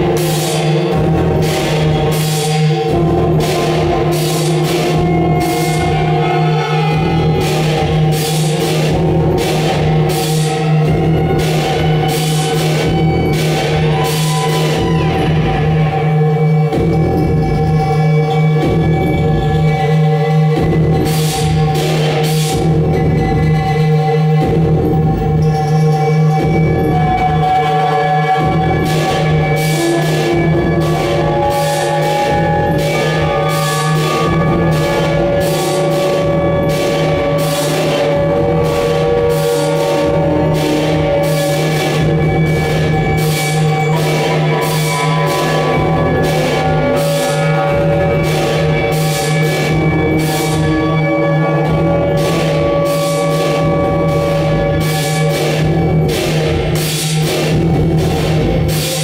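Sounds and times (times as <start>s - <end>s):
electronic music drone: 0.0s - 59.0s.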